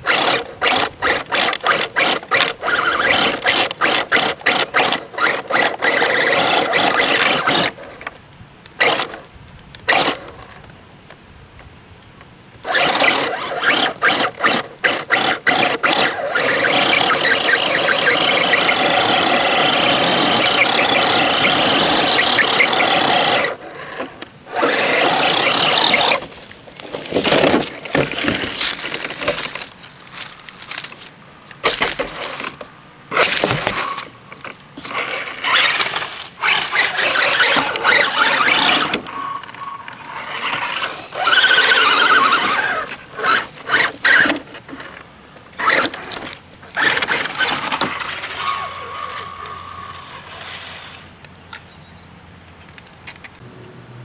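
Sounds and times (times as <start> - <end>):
electric motor and gears whining: 0.0 - 8.1, 8.7 - 9.2, 9.8 - 10.6, 12.6 - 51.2.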